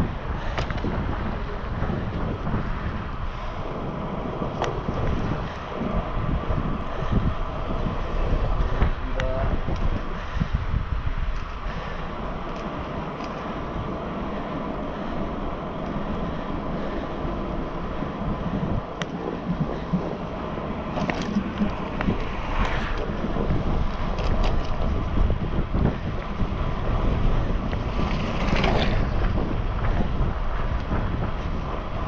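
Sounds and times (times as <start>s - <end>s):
bicycle tyre and road rumble: 0.0s - 32.0s
wind buffeting microphone: 0.0s - 32.0s.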